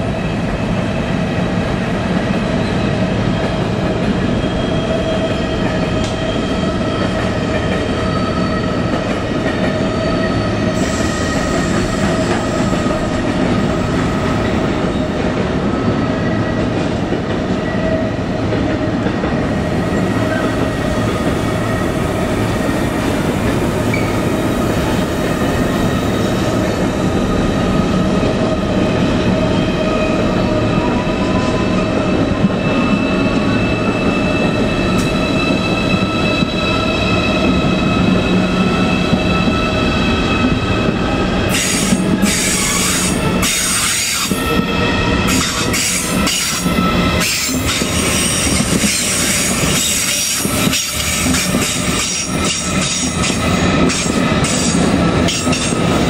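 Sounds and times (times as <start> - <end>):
train whine: 0.0 - 56.0.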